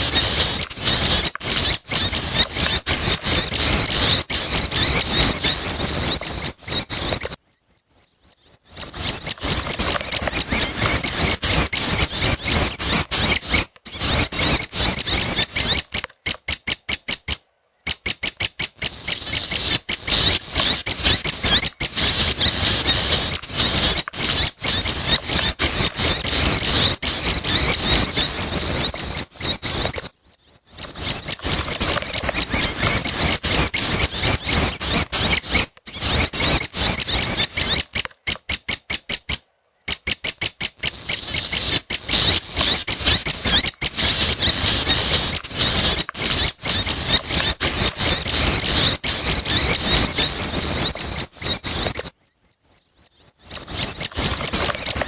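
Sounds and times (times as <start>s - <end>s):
chicks high-pitched begging calls: 0.0s - 7.4s, 8.0s - 52.1s, 53.2s - 55.0s.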